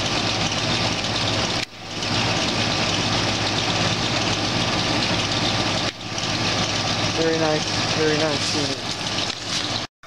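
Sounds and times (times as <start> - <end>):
compressor humming: 0.0 - 9.9
outdoor fan rushing: 0.0 - 9.9.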